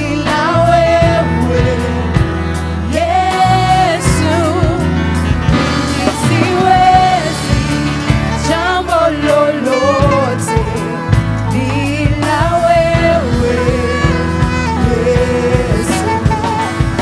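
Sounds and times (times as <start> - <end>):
gospel worship music: 0.0 - 17.0
person singing with vibrato: 0.0 - 17.0
steady drum beat: 0.0 - 17.0.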